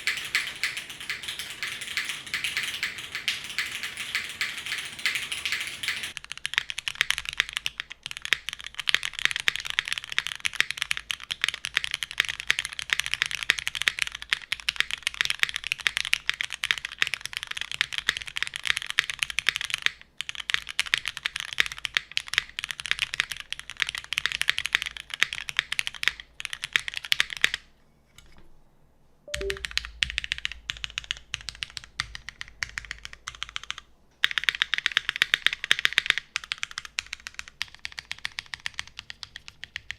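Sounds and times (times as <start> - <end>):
mechanical keyboard typing: 0.0 - 27.6, 29.3 - 39.9.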